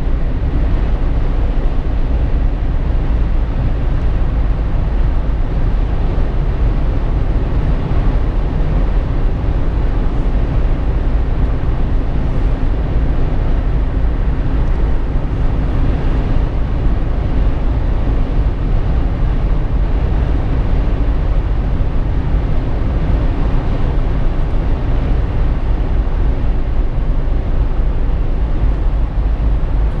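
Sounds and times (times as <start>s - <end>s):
car cabin road noise: 0.0s - 30.0s.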